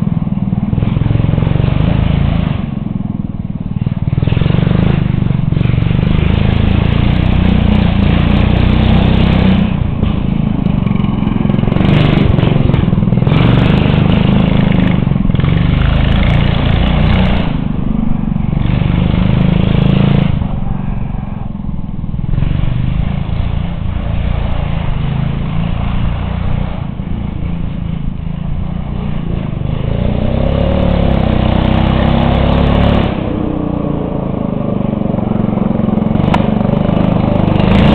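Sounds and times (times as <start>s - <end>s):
lawn tractor engine revving: 0.0s - 37.9s.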